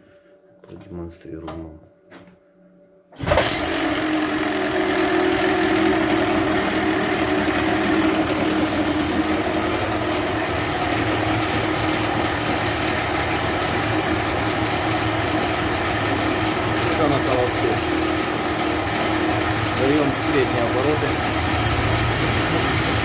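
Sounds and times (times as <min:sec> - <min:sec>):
outboard motor idling: 0:03.2 - 0:23.0.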